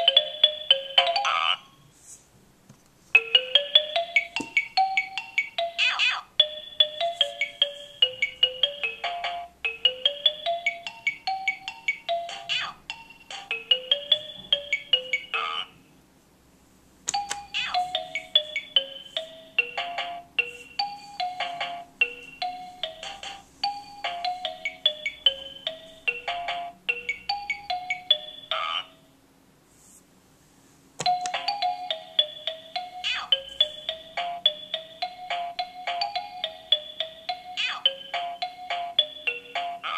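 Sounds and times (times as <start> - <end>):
toy playing beeping melodies: 0.0 - 1.9, 3.2 - 15.8, 17.1 - 29.1, 31.0 - 39.9.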